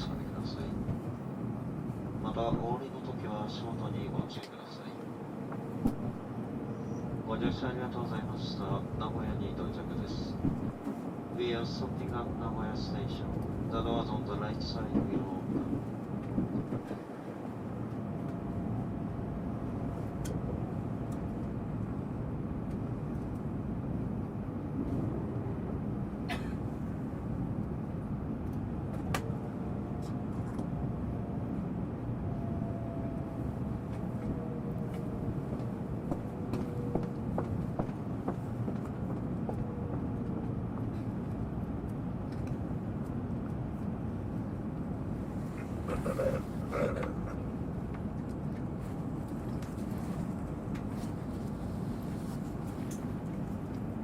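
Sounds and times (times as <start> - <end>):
train interior rumble: 0.0 - 54.0.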